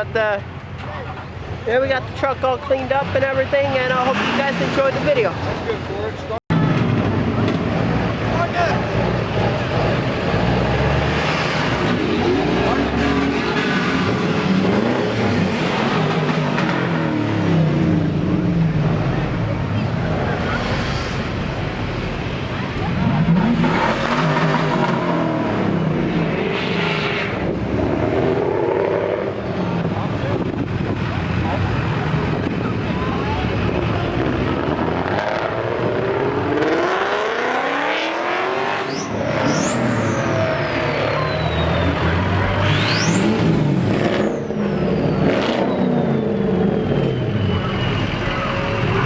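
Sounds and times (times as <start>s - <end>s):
truck engine revving: 1.0s - 49.0s.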